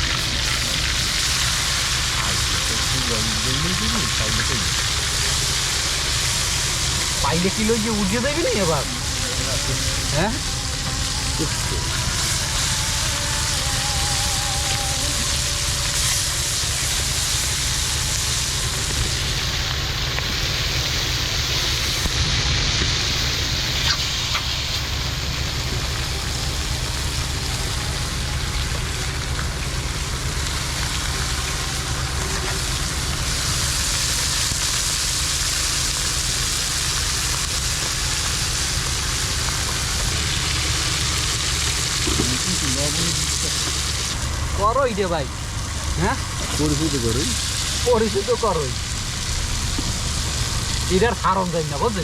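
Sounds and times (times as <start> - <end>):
constant low rumble: 0.0 - 52.0
food sizzling in a pan: 0.0 - 52.0
wood fire crackling: 0.0 - 52.0.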